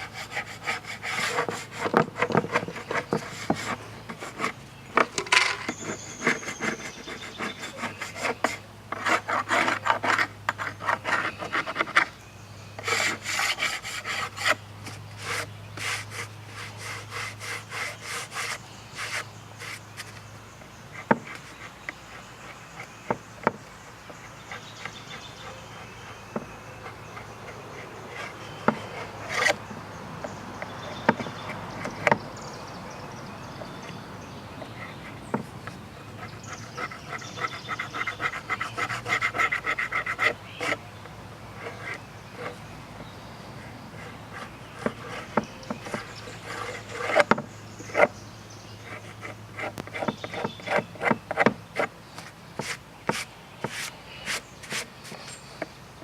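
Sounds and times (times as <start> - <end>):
rubbing strokes on wood: 0.0 - 12.1, 12.8 - 20.2, 20.9 - 32.2, 34.6 - 40.9, 41.5 - 48.2, 48.8 - 55.7.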